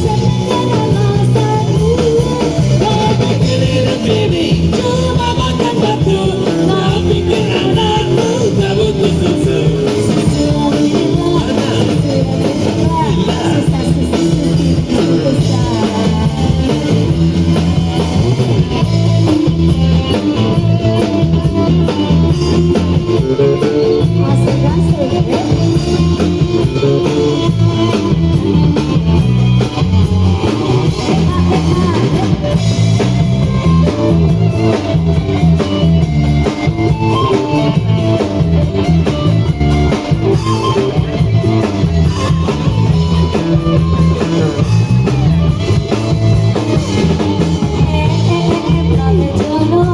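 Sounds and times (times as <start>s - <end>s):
song with guitar and drums: 0.0s - 49.9s.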